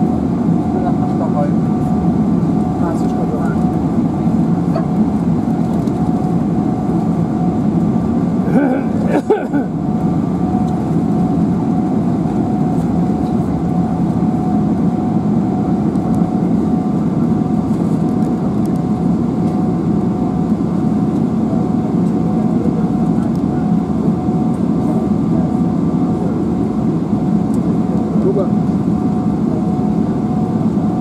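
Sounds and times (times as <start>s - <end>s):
aircraft cabin engine rumble: 0.0s - 31.0s
faint steady whine: 0.0s - 31.0s.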